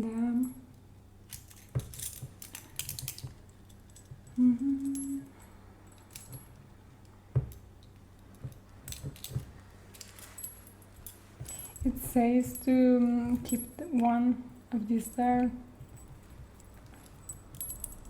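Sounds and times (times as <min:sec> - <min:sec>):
metal handcuffs and keys clicking: 0:00.4 - 0:18.0.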